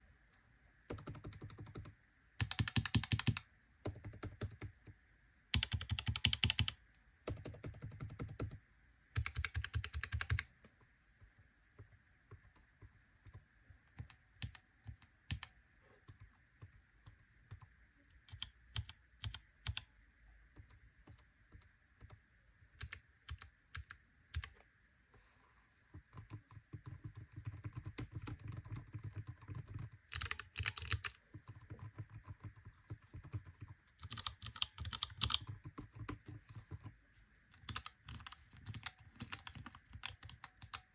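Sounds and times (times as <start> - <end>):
typing on keyboards: 0.9 - 8.6, 9.2 - 10.5, 11.8 - 19.8, 22.8 - 24.5, 26.0 - 36.9, 37.5 - 40.9.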